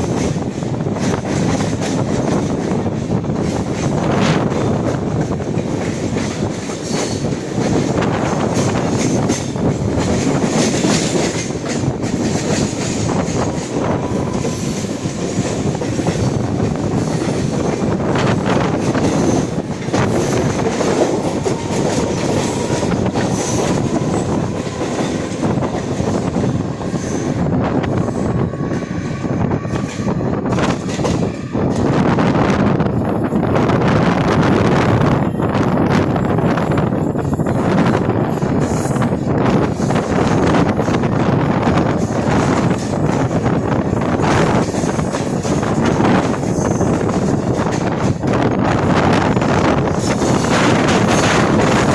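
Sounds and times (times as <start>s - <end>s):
clickety-clack over rail joints: 0.0s - 51.9s
train wheels rumbling on rails: 0.0s - 51.9s.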